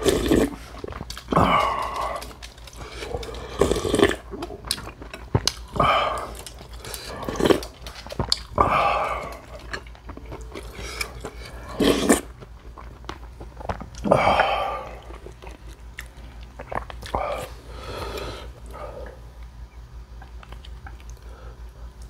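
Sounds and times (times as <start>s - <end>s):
wet chewing with smacking clicks: 0.4s - 11.5s, 12.1s - 14.1s, 14.9s - 17.4s, 18.2s - 21.3s.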